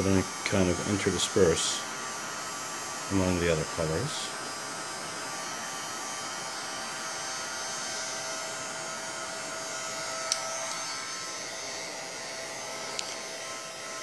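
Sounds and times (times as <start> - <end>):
fan whine: 0.0 - 14.0
heat gun blowing: 0.0 - 14.0.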